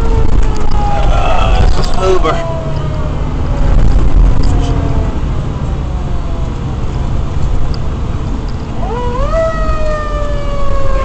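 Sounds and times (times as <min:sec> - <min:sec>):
fire engine siren: 0:00.0 - 0:11.0
road noise: 0:00.0 - 0:11.0
truck engine rumble: 0:00.0 - 0:11.0.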